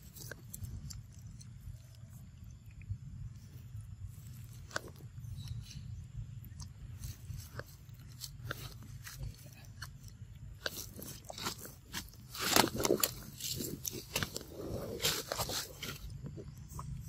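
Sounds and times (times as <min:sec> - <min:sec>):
monkey chewing fruit: 0:00.0 - 0:17.0.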